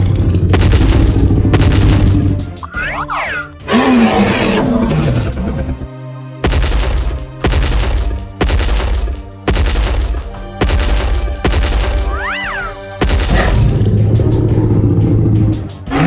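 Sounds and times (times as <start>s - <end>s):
music with booming drum beat: 0.2s - 2.9s, 5.6s - 16.0s.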